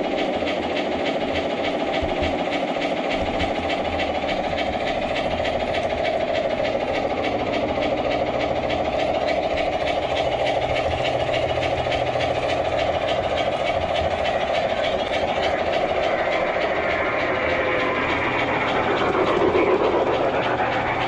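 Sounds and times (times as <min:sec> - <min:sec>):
model train motor humming: 0:00.0 - 0:21.0
wheels ticking over rails: 0:00.0 - 0:21.0.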